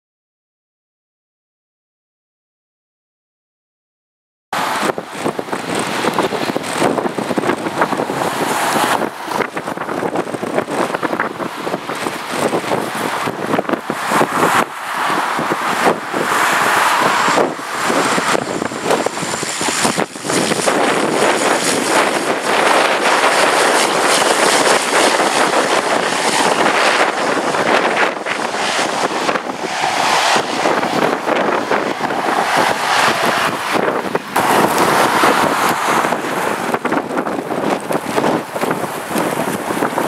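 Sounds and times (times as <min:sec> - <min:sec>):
turboprop plane landing: 0:04.6 - 0:40.0
wind buffeting microphone: 0:04.6 - 0:40.0.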